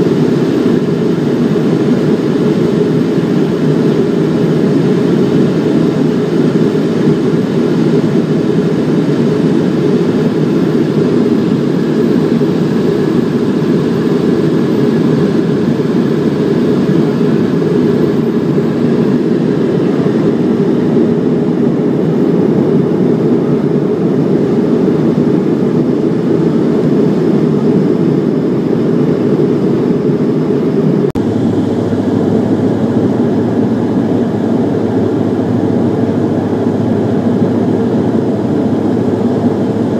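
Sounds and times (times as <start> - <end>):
turboprop airliner engines droning: 0.0 - 39.9.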